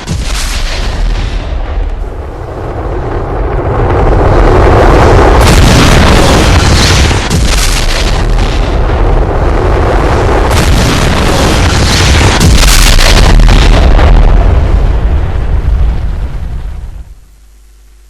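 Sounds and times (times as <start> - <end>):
sharp blasts: 0.0 - 14.6
explosions booming: 0.0 - 17.2.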